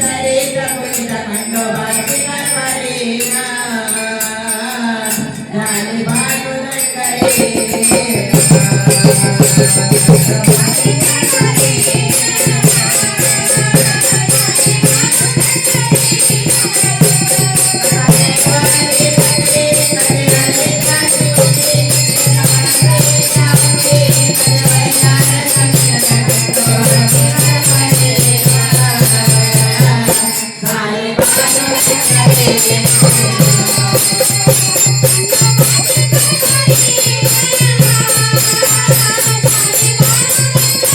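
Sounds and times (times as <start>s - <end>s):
fast percussion rhythm: 0.0s - 40.9s.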